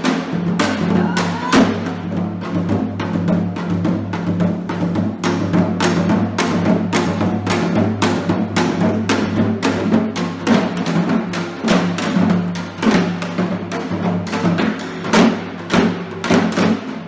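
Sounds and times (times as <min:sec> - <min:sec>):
drum strikes: 0:00.0 - 0:17.0.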